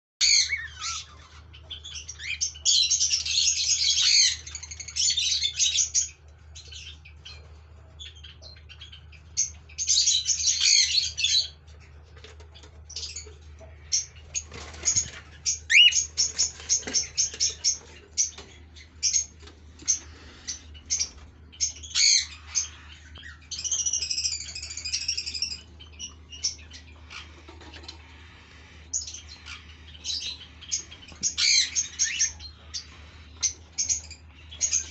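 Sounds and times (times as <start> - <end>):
cockatiels squawking: 0.2 - 7.4, 8.2 - 11.6, 13.9 - 34.9.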